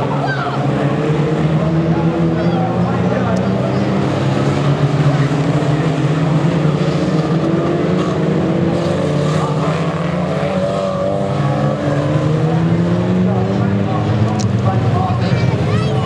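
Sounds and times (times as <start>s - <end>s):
race car engines accelerating: 0.0s - 16.0s.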